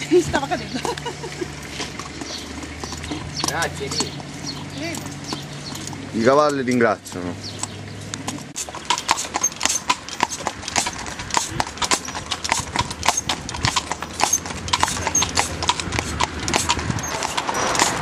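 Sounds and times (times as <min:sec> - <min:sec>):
hooves clip-clopping on asphalt: 0:00.0 - 0:18.0.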